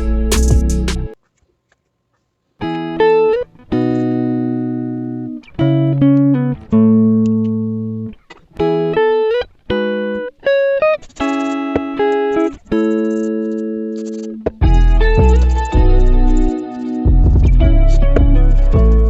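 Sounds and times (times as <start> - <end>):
plucked guitar notes and chords: 0.0 - 1.2, 2.6 - 19.0.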